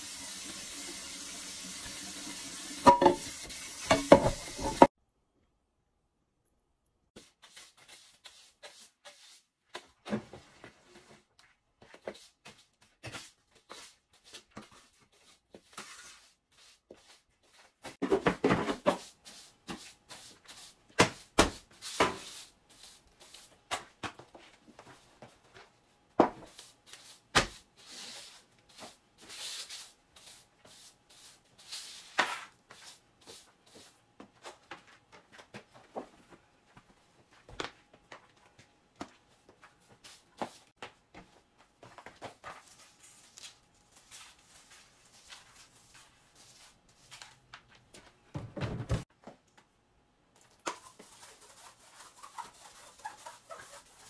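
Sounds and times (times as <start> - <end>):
broom sweeping hard floor: 1.9 - 4.9, 7.2 - 37.6, 39.1 - 47.4, 50.7 - 54.0.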